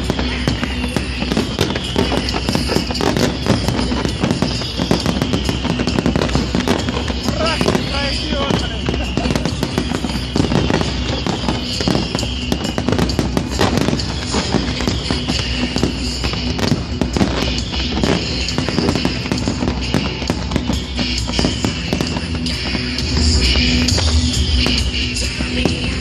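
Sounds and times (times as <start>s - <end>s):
fireworks bangs and crackling: 0.0s - 26.0s
music playing: 0.0s - 26.0s.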